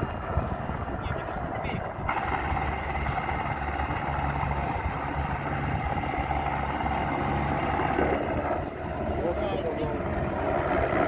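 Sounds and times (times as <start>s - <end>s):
helicopter rotor chop and turbines: 0.0s - 11.0s.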